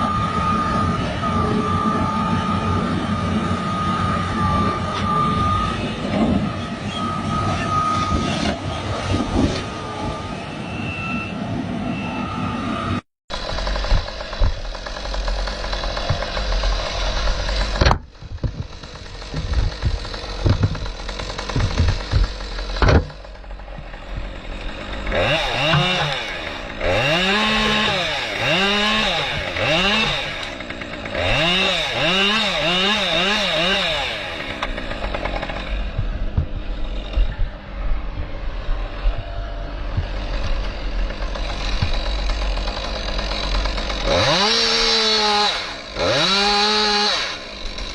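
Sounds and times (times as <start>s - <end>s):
forestry machinery running: 0.0s - 47.9s.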